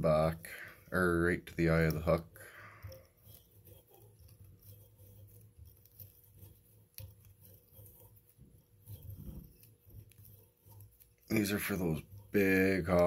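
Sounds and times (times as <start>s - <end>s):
hands winding material: 0.0s - 13.0s.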